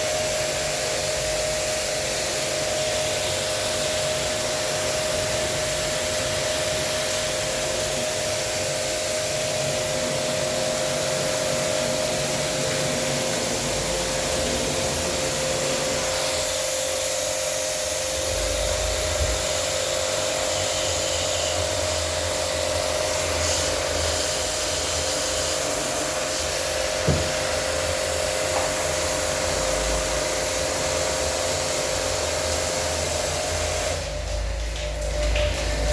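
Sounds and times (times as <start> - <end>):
electric machine hissing and whining: 0.0 - 35.9.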